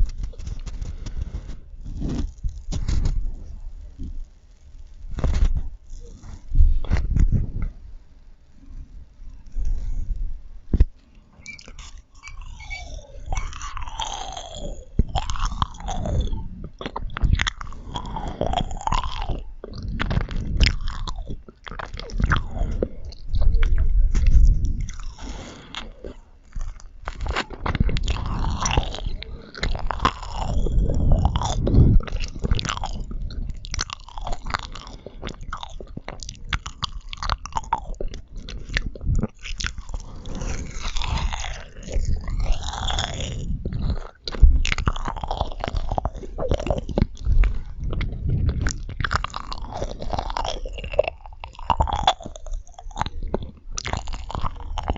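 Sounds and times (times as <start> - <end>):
chewing marshmallows: 0.0 - 7.8, 8.4 - 54.9
sticky mouth clicks and smacks: 9.6 - 54.9.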